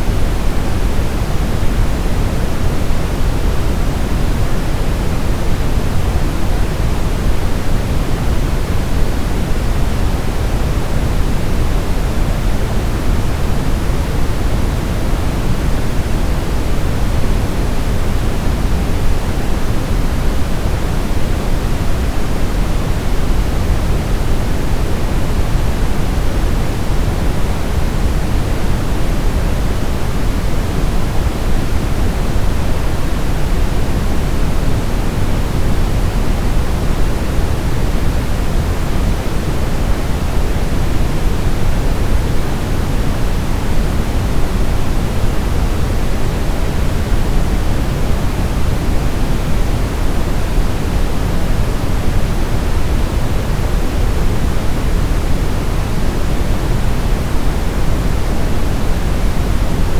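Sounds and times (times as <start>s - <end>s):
synthetic white noise: 0.0s - 59.9s.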